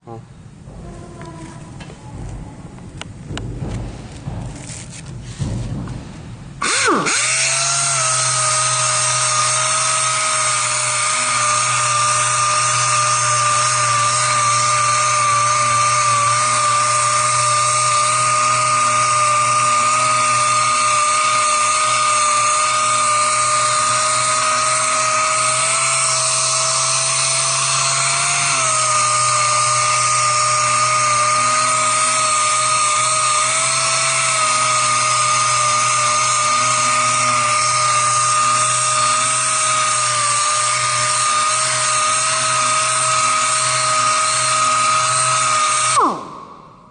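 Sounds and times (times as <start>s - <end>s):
power grinder whining: 6.6s - 46.5s.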